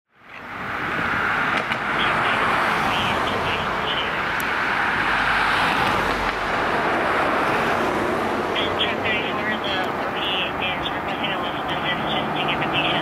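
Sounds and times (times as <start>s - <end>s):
fire truck engine running: 0.6s - 5.3s, 6.3s - 13.0s.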